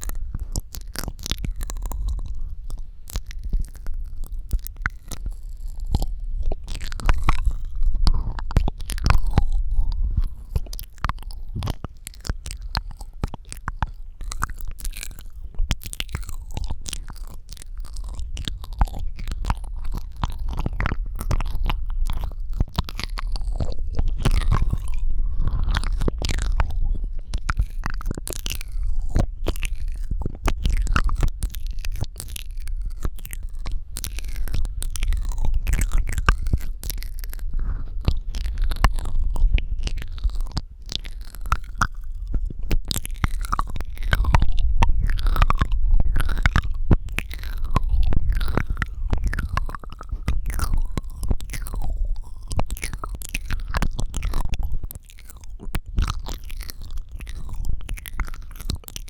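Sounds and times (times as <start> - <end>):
wet mouth clicks and smacks: 0.0 - 59.0.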